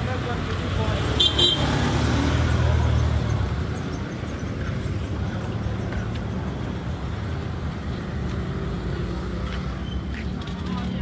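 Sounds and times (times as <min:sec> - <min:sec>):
passing cars rumbling: 0:00.0 - 0:11.0.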